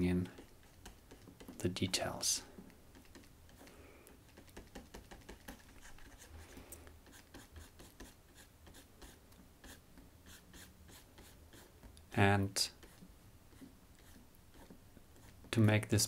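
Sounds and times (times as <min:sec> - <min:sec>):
stylus scratching on graphics tablet: 0:00.2 - 0:01.6, 0:02.9 - 0:11.8, 0:12.7 - 0:15.5.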